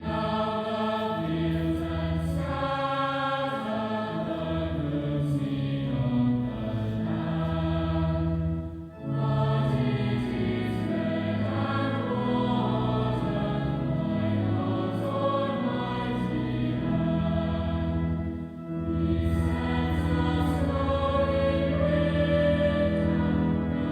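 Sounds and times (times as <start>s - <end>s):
choir singing held chords: 0.0s - 23.9s.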